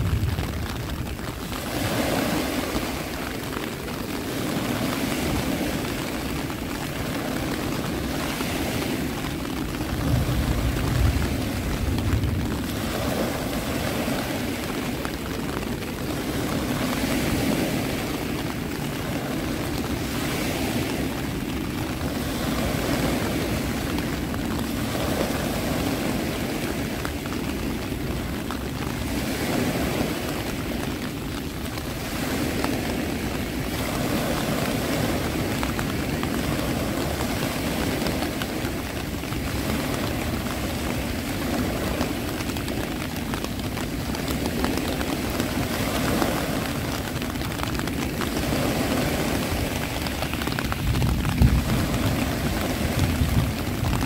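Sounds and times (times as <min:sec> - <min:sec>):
ocean waves washing: 0:00.0 - 0:54.0.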